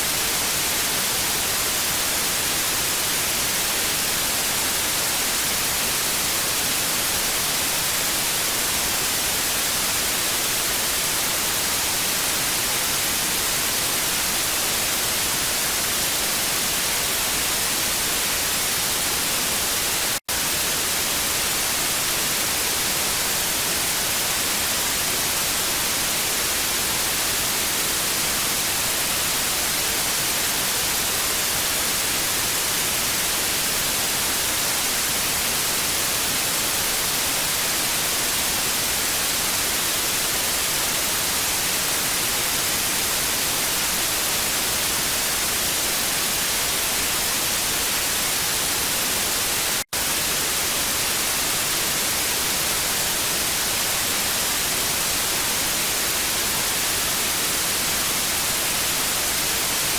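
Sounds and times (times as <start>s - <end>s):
tv static hiss: 0.0s - 59.9s.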